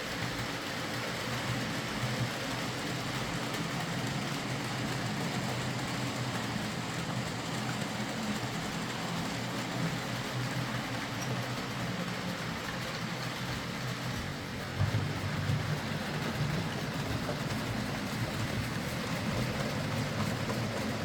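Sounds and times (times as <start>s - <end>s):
wheels rolling on rails: 0.0s - 21.0s
model train motor humming: 0.1s - 21.0s.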